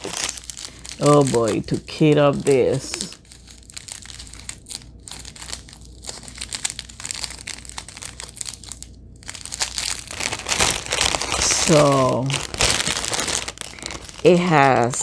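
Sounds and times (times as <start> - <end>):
plastic baggies crinkling: 0.0 - 15.0.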